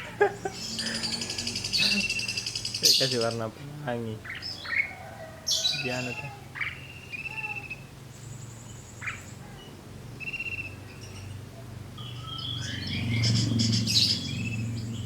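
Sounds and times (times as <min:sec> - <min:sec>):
caged songbirds chirping: 0:00.0 - 0:15.0.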